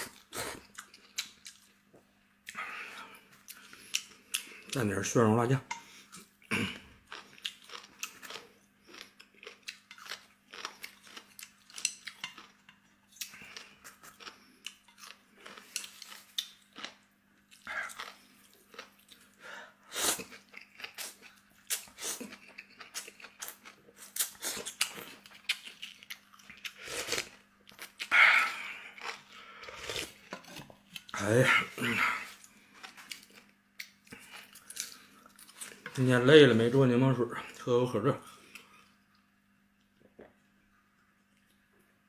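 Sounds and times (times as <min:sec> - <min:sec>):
person chewing crunchy food: 0:00.0 - 0:04.8, 0:06.0 - 0:36.0.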